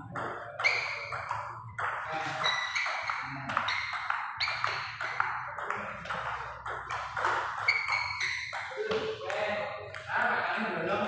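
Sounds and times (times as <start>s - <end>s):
ping-pong ball bouncing on table: 0.0s - 11.0s
ping-pong ball hitting paddles: 0.0s - 11.0s.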